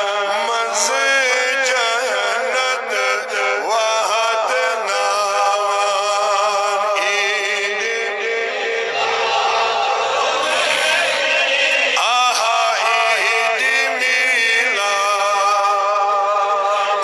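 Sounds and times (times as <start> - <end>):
man singing devotional hymn: 0.0 - 9.0, 10.4 - 17.0.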